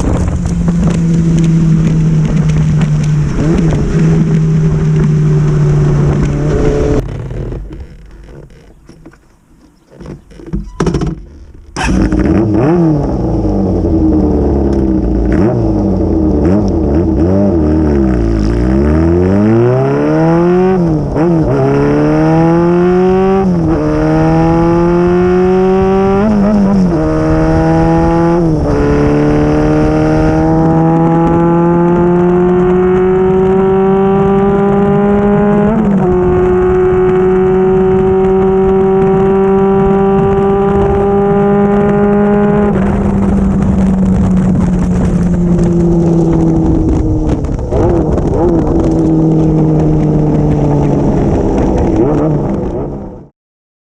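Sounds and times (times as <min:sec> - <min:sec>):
motorcycle exhaust accelerating: 0:00.0 - 0:53.3.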